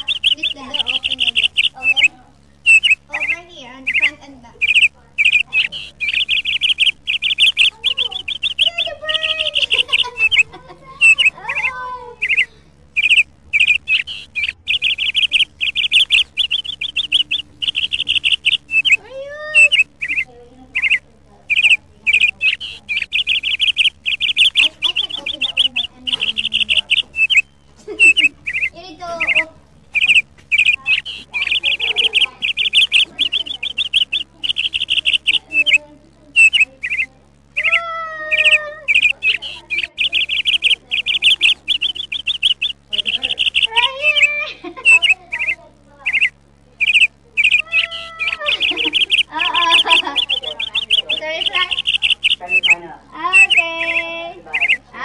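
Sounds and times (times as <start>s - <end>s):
small bird chirping: 0.0s - 55.0s.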